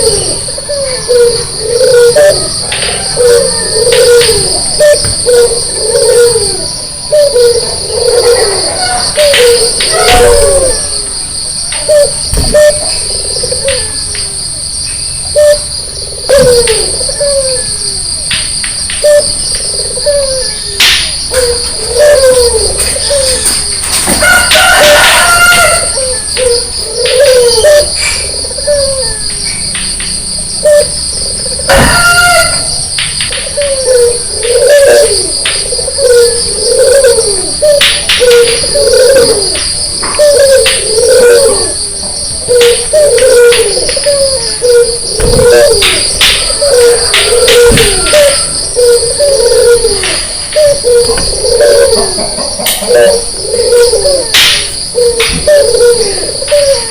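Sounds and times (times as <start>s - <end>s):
dove cooing: 0.0s - 56.9s
high insect trill: 0.0s - 56.9s.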